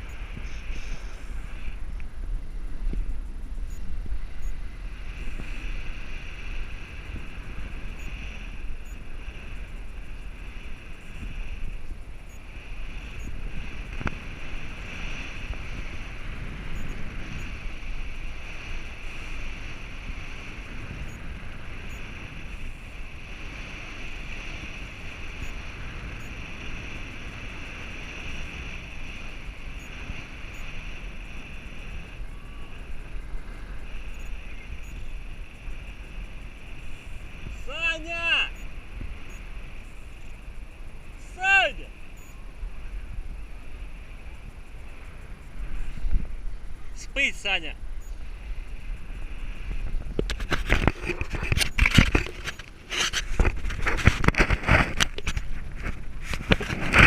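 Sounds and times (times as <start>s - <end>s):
motorboat drone: 0.0s - 37.7s, 38.3s - 57.0s
wind noise on microphone: 0.0s - 57.0s.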